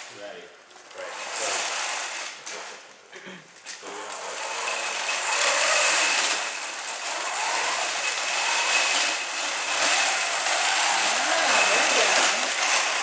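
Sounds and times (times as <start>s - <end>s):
electric motors whining: 0.8s - 2.7s, 3.8s - 13.0s.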